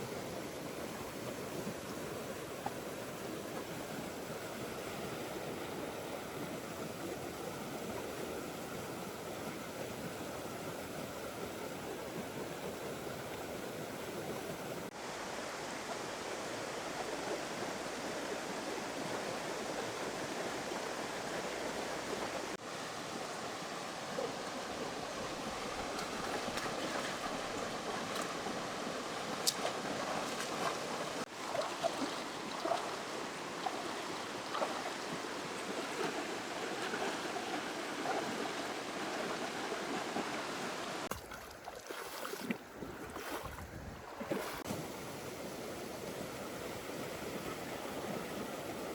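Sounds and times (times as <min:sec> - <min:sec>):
river water flowing: 0:00.0 - 0:48.9.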